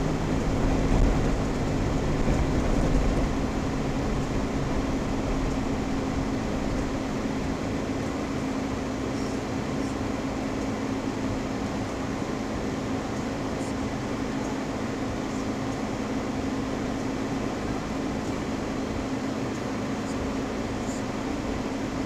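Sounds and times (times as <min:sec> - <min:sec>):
low hum inside vehicle cabin: 0:00.0 - 0:22.0.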